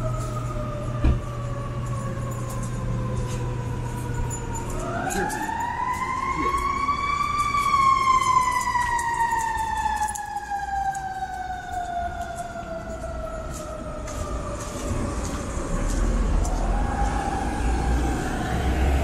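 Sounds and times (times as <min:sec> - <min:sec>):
city traffic rumble: 0:00.0 - 0:19.0
emergency vehicle siren wailing: 0:00.0 - 0:19.0.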